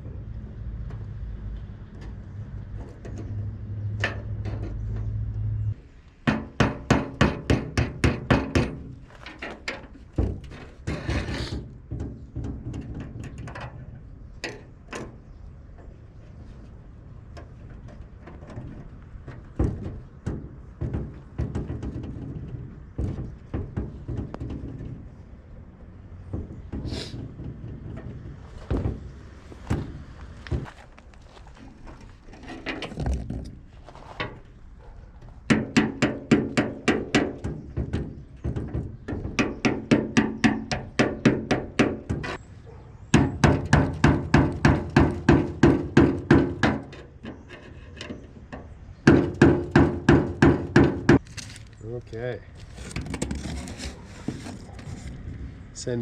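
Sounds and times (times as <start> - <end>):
metallic knocks and clanks: 0.7 - 5.3, 6.2 - 16.2, 17.2 - 51.6.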